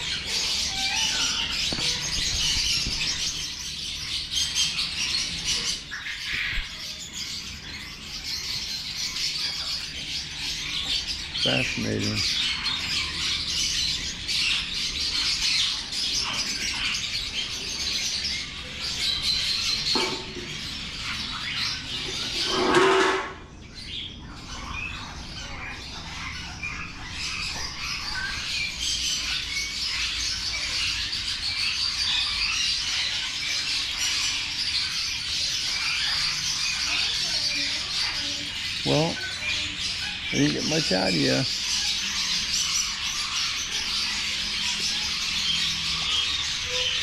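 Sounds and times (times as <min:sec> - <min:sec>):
lovebirds chirping and squeaking: 0:00.0 - 0:47.0.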